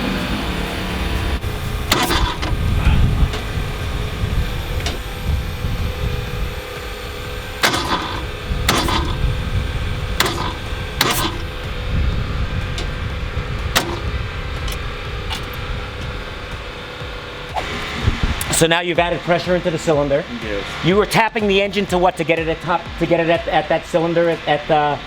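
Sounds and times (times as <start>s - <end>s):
steady low rumble: 0.0s - 24.8s.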